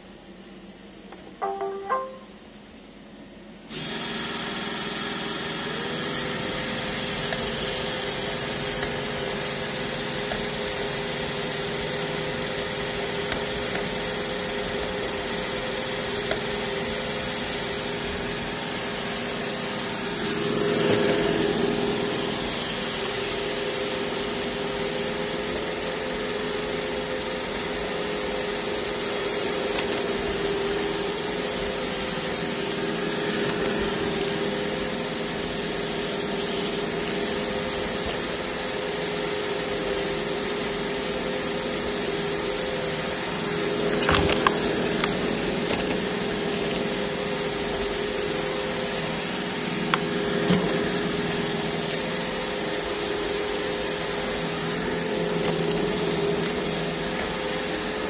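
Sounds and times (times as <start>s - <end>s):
robot vacuum whining: 3.7s - 58.0s.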